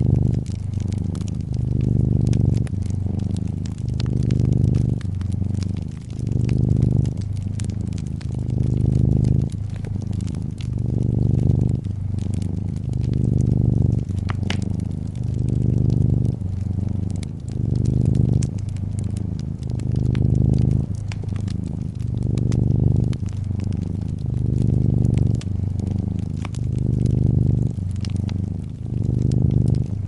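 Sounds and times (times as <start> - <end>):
cat purring: 0.0 - 30.0
fireplace crackling and popping: 0.0 - 30.0.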